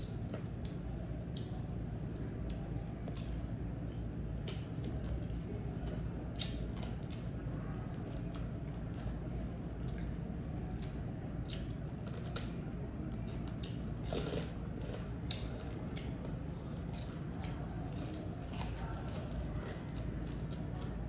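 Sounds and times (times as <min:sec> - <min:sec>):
crunching and chewing crisp food: 0:00.0 - 0:21.0
steady low hum: 0:00.0 - 0:21.0.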